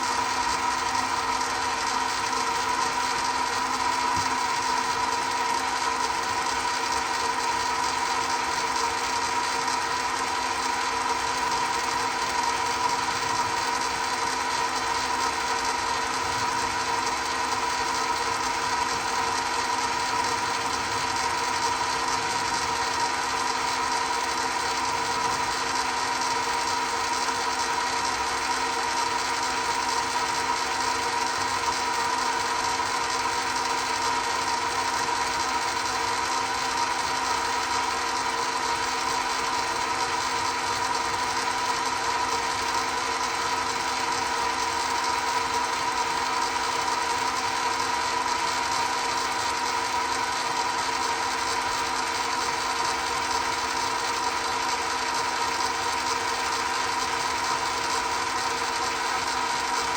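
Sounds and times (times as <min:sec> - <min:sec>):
lathe running with whine: 0:00.0 - 0:59.9.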